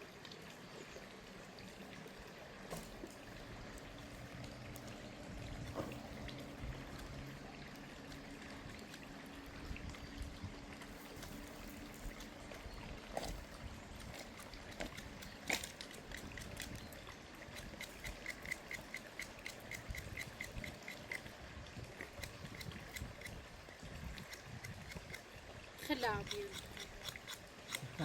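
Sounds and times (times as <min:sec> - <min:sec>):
water trickling: 0:00.0 - 0:28.0.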